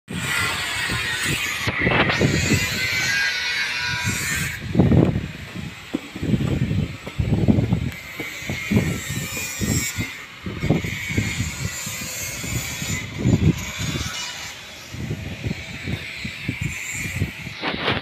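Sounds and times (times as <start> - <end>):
wind buffeting microphone: 0.1 - 18.0.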